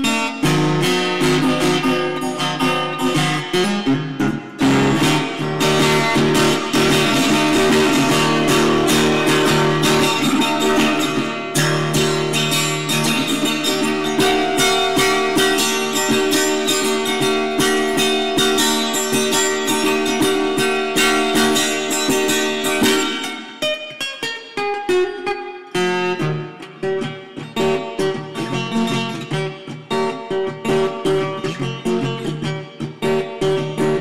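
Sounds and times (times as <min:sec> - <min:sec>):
strummed guitar chords: 0:00.0 - 0:34.0.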